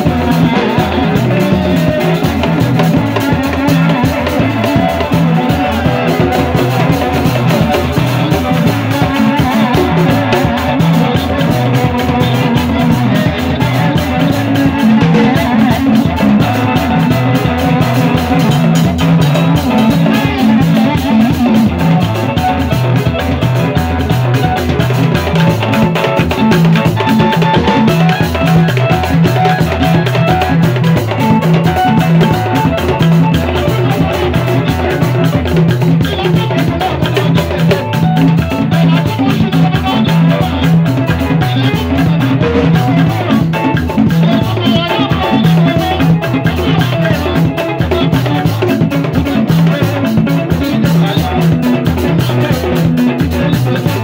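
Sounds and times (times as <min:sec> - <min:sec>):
amplified instruments: 0:00.0 - 0:54.0
congas: 0:00.0 - 0:54.0
drum kit: 0:00.0 - 0:54.0.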